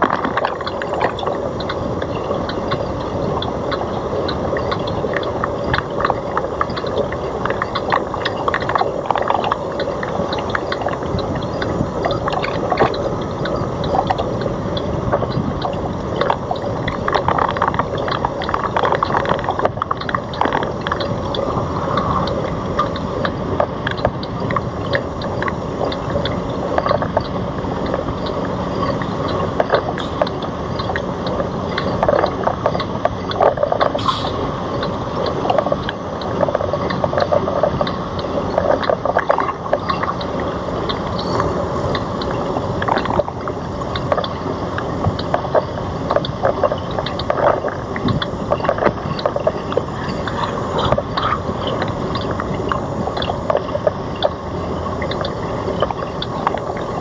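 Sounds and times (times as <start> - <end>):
bicycle rattles and clicks: 0.0 - 57.0
wind buffeting microphone: 0.0 - 57.0.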